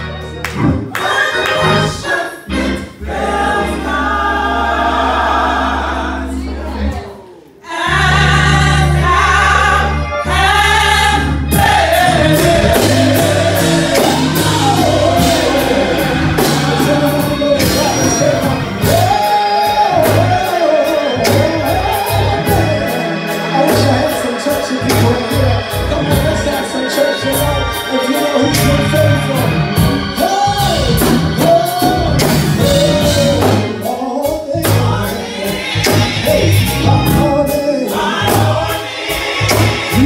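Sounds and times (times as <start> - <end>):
band with bass and drums: 0.0 - 3.7, 8.0 - 40.0
gospel choir singing: 0.0 - 40.0
keyboard bass notes: 0.0 - 40.0
lead vocal: 0.0 - 40.0.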